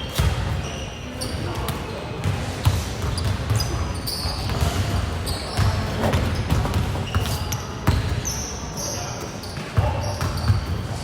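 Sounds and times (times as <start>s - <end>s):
basketballs dribbling in a hall: 0.0s - 11.0s.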